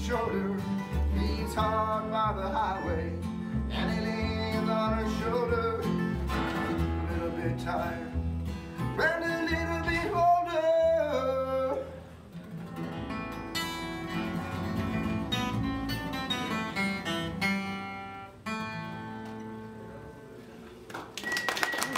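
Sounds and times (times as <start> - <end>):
upright bass: 0.0 - 17.9
acoustic guitars picking: 0.0 - 20.9.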